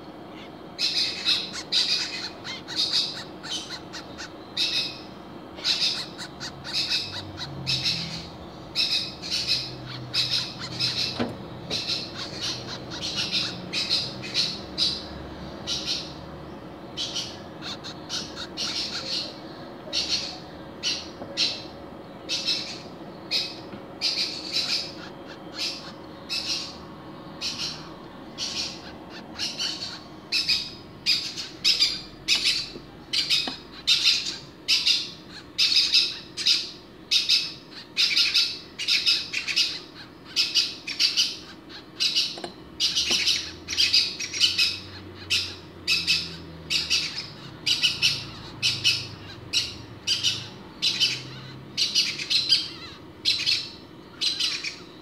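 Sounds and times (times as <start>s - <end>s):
bird chick cheeping: 0.3s - 55.0s.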